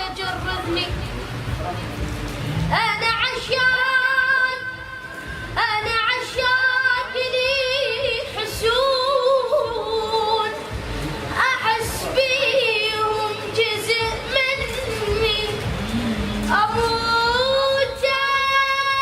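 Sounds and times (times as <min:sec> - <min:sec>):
person singing unaccompanied: 0:02.6 - 0:19.0.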